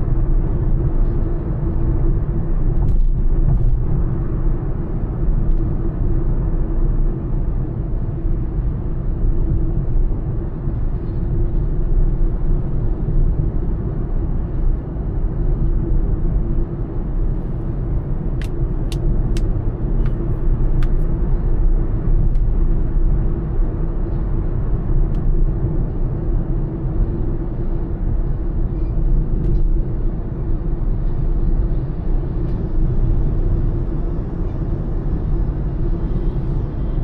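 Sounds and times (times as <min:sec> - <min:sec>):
car road and engine rumble: 0:00.0 - 0:37.0.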